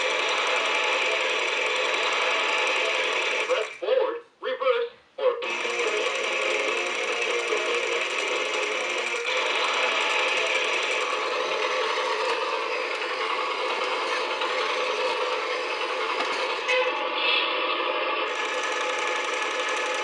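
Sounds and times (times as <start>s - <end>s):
toy gears whirring: 0.0s - 3.8s, 5.4s - 17.0s, 18.3s - 20.0s.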